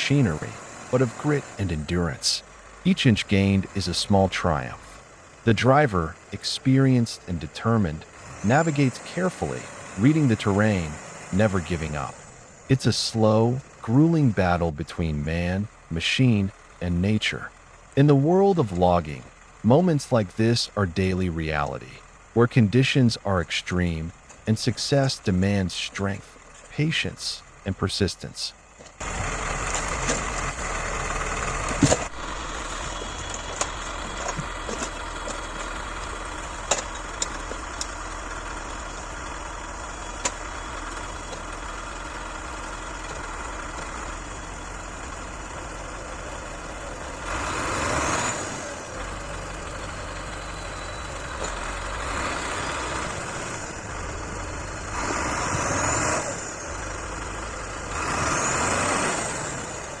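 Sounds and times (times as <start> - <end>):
tractor diesel engine revving: 0.0 - 60.0.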